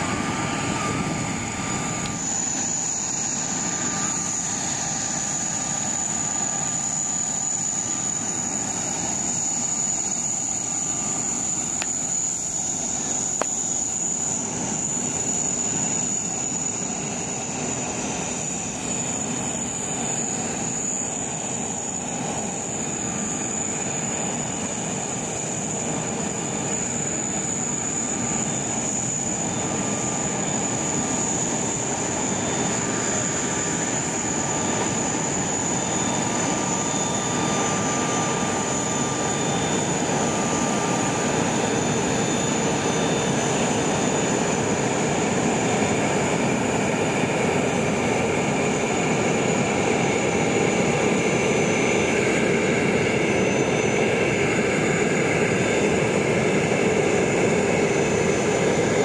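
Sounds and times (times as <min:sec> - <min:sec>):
aircraft turbine whine: 0:00.0 - 0:59.0.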